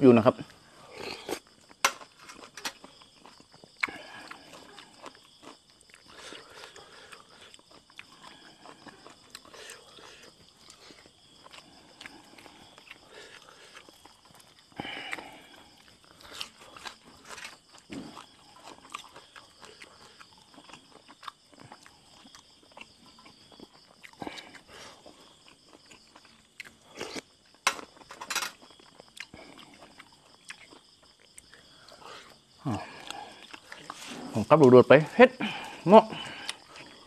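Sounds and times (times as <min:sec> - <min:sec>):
chewing and crunching: 0:00.3 - 0:37.0.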